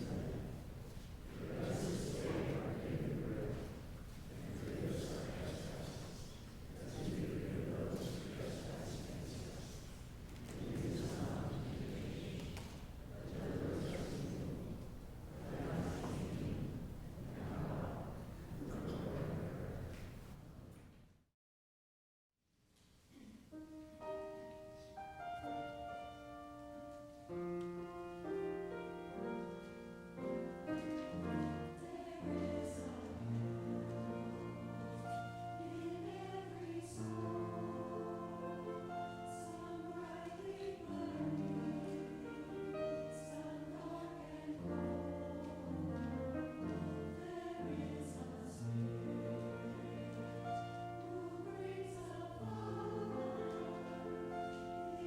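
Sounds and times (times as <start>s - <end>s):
choir singing: 0.0s - 20.3s, 28.0s - 55.0s.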